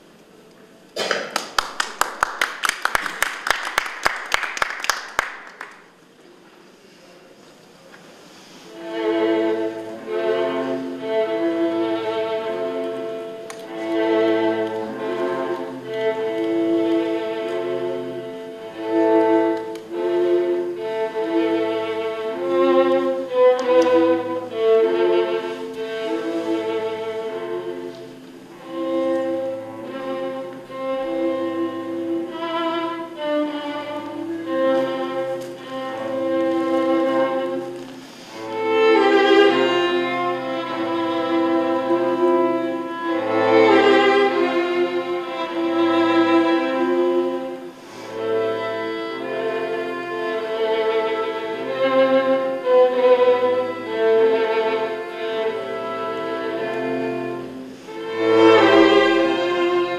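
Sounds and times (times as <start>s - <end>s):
violin: 5.6s - 59.9s
cello: 6.2s - 59.9s.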